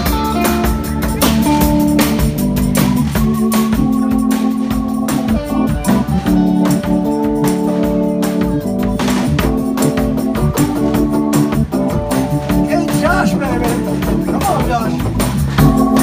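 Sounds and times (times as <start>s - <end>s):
drum kit with cymbal strikes: 0.0s - 16.0s
organ-like keyboard chords: 0.0s - 16.0s.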